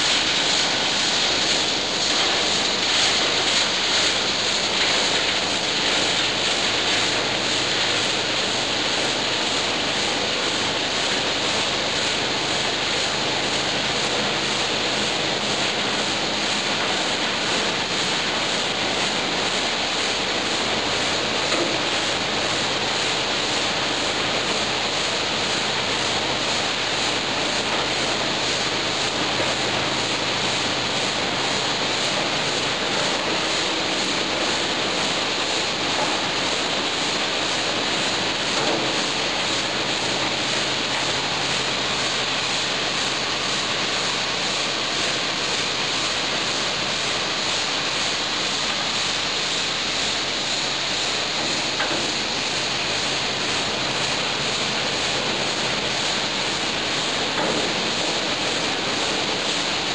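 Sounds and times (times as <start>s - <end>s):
rushing water in tanks: 0.0s - 59.9s.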